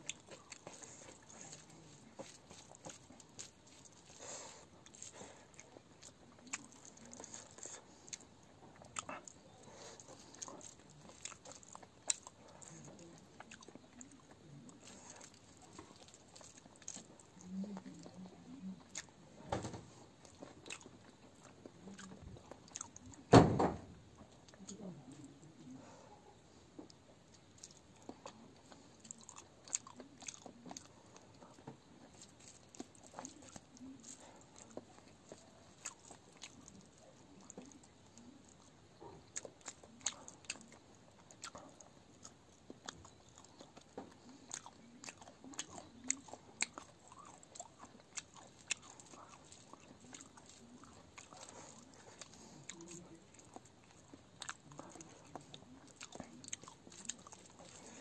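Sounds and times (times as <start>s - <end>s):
man chewing wetly: 0.0s - 23.3s, 24.0s - 58.0s.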